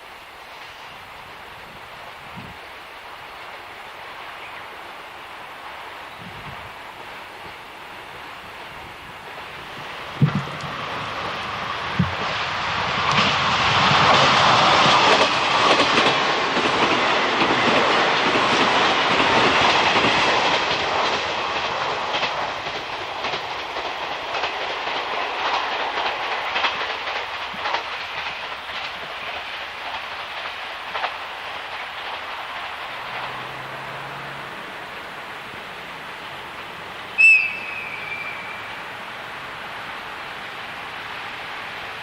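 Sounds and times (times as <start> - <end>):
train wheels clicking over joints: 0.0 - 42.0.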